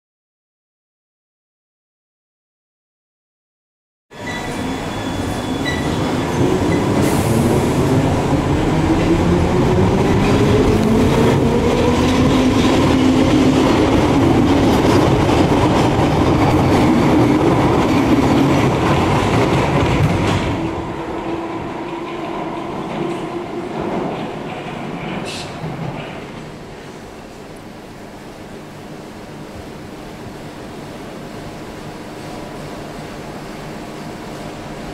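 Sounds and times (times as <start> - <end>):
train accelerating with rising whine: 4.2 - 34.9.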